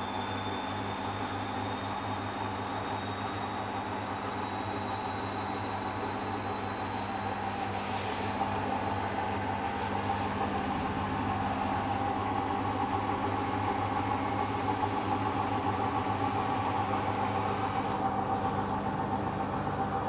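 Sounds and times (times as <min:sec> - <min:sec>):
high whine rising in pitch: 0:00.0 - 0:20.0
washing machine spinning: 0:00.0 - 0:20.0.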